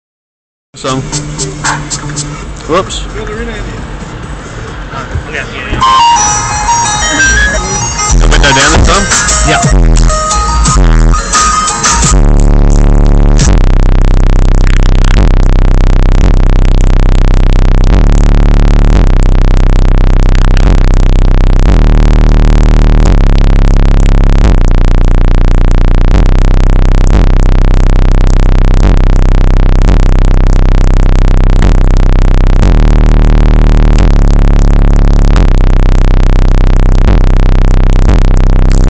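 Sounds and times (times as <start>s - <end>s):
distorted bass-heavy electronic music: 0.8s - 38.9s.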